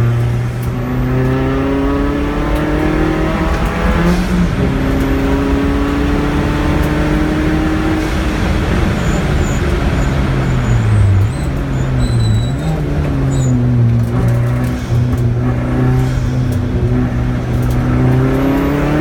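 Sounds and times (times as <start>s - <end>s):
race car engine accelerating: 0.0s - 19.0s
road and wind noise: 0.0s - 19.0s.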